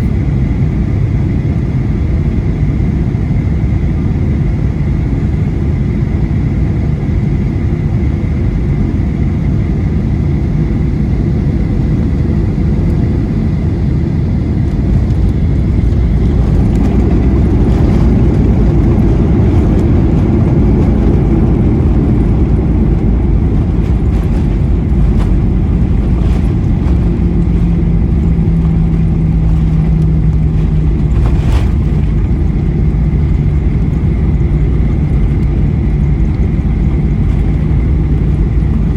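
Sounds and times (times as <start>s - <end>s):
aircraft engines and airflow roar: 0.0s - 38.9s.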